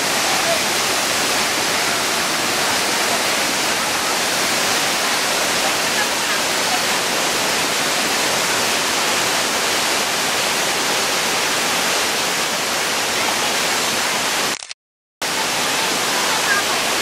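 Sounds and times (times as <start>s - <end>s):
waterfall rushing onto rocks: 0.0s - 17.0s.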